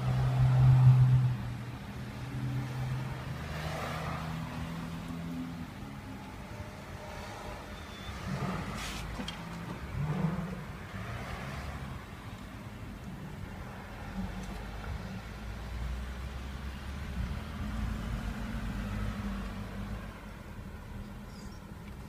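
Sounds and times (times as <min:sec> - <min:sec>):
car engines passing: 0:00.0 - 0:22.0.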